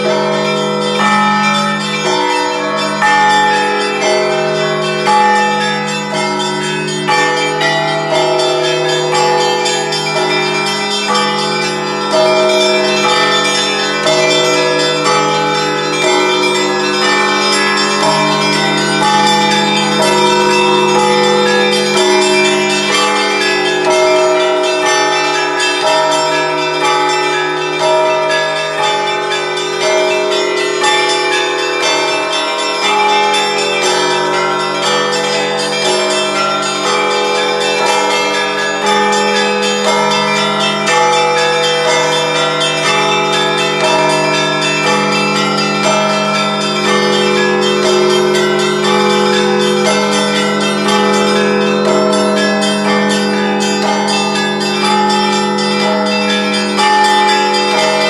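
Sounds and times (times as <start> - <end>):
deep church bells struck: 0.0 - 58.0
small church bells ringing: 0.0 - 58.0.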